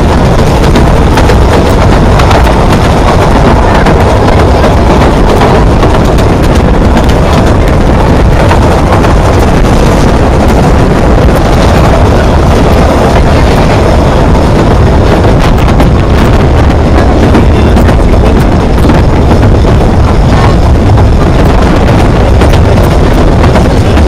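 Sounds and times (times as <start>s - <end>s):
train coaches rumbling on track: 0.0s - 24.0s
wind buffeting microphone: 0.0s - 24.0s.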